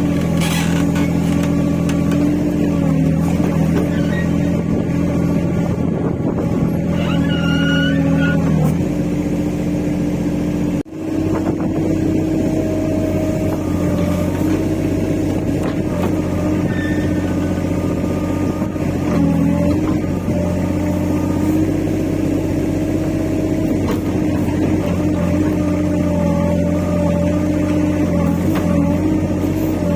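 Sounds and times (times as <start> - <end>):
excavator engine running: 0.0 - 29.9.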